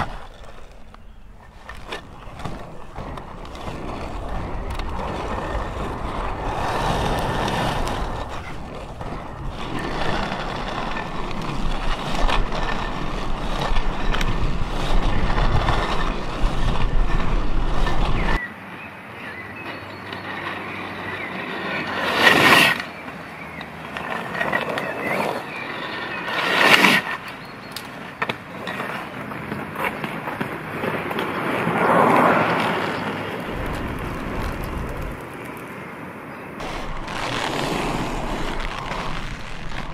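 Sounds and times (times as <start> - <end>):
inline skate wheels rolling on pavement: 0.0 - 18.4, 19.1 - 39.9.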